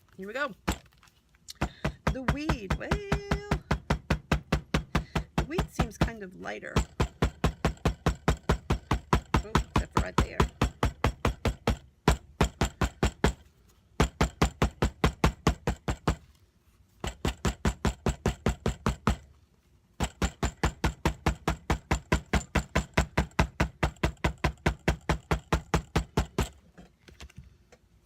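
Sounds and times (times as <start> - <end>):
hammer pounding leaf on paper: 0.1 - 26.6.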